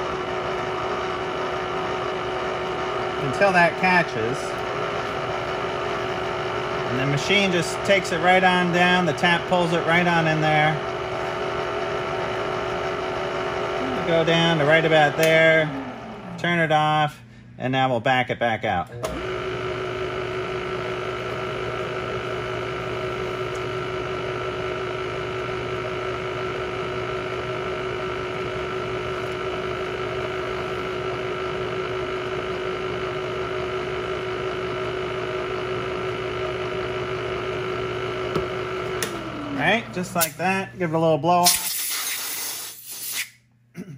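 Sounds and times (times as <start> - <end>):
milling machine humming and whining: 0.0 - 17.1, 19.0 - 40.7.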